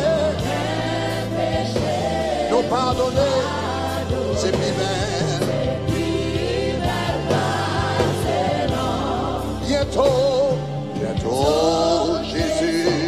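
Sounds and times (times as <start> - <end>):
live band with bass line: 0.0 - 13.0
man leading gospel singing: 0.0 - 13.0
voices singing together: 0.0 - 13.0.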